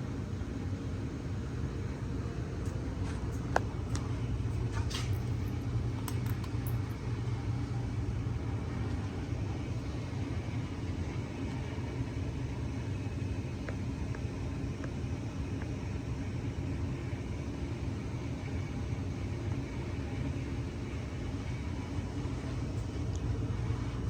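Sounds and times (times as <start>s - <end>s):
ceiling fan motor hum: 0.0s - 24.0s.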